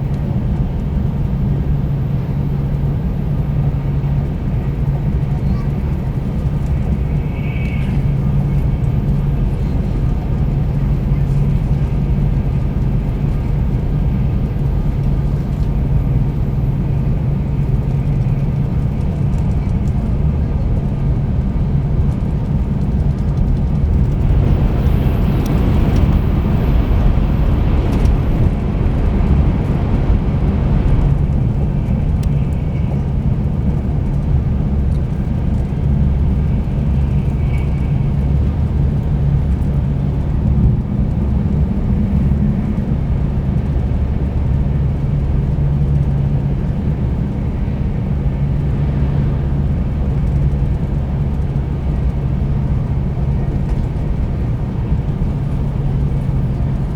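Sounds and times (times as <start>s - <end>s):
train cabin low rumble: 0.0s - 56.9s.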